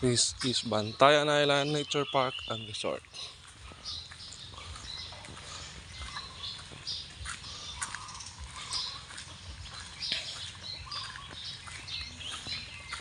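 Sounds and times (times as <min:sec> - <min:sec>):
many birds chirping: 0:00.0 - 0:13.0.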